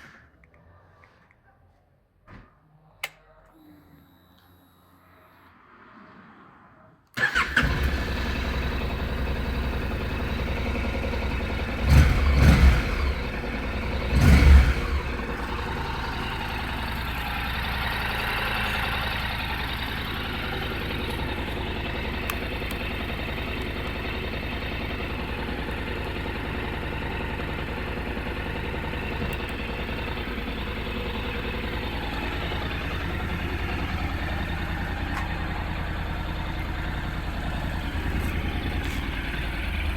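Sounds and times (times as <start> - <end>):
motorcycle engine starting and idling: 7.1 - 39.9
motorcycle engine blipped: 7.2 - 39.9.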